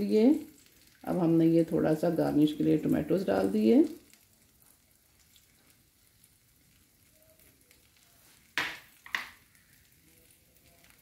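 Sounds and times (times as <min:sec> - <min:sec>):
omelette sizzling in a pan: 0:00.0 - 0:11.0.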